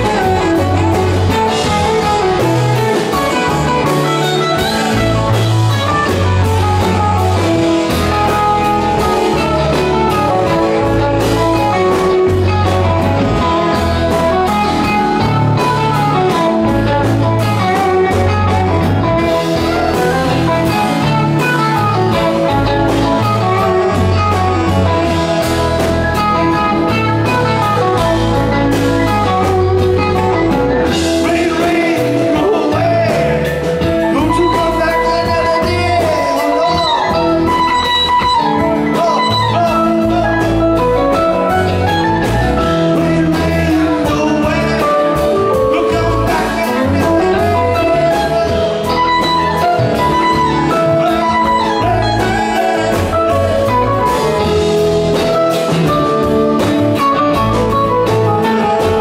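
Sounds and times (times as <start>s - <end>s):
bass guitar: 0.0s - 59.0s
drums: 0.0s - 59.0s
electric guitars: 0.0s - 59.0s.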